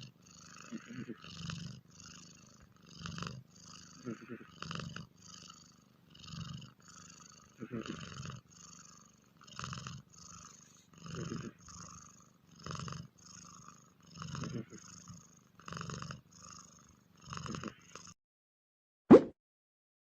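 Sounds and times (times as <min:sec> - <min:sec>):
cat purring: 0:00.0 - 0:18.2.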